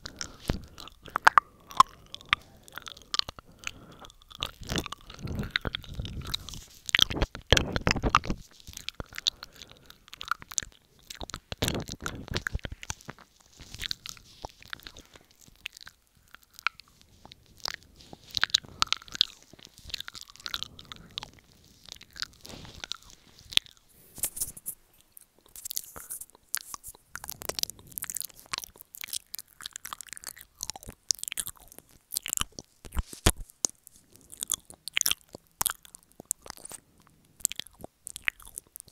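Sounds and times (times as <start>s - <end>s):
wet mouth clicks and smacks: 0.0s - 38.9s.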